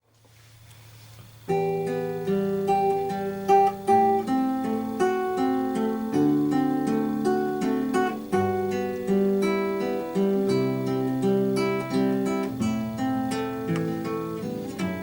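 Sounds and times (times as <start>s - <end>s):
faint low hum: 0.0s - 15.0s
acoustic guitar playing: 0.3s - 15.0s.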